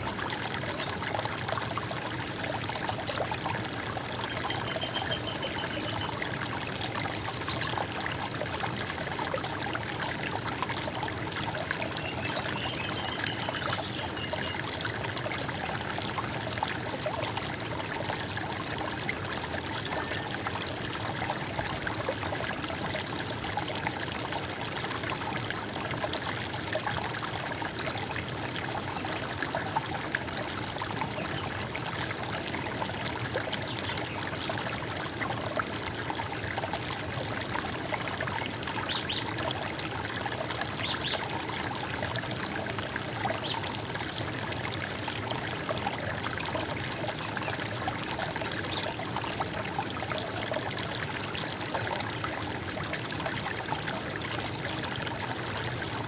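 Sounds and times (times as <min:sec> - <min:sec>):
water gurgling: 0:00.0 - 0:56.0.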